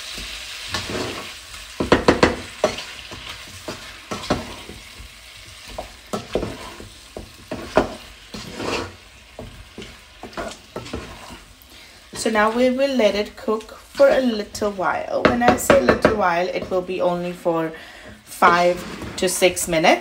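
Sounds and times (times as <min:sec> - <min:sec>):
chicken sizzling in oil: 0:00.0 - 0:16.4
wooden spatula scraping pot: 0:00.7 - 0:20.0.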